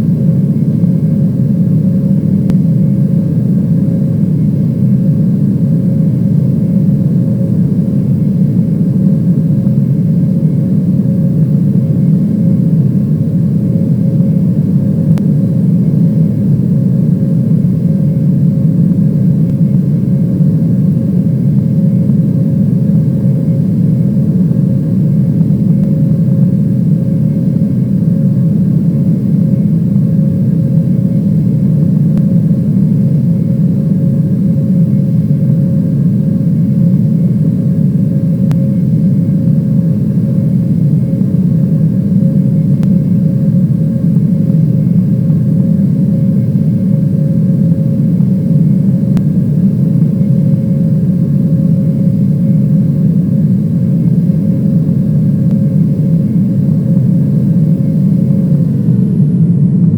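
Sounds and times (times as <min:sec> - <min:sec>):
airliner engine rumble: 0:00.0 - 0:59.9
faint constant hum: 0:00.0 - 0:59.9.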